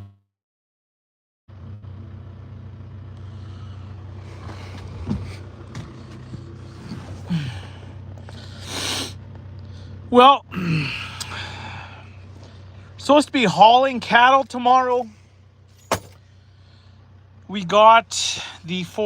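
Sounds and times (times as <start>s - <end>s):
vehicle engine idling: 1.5s - 19.0s.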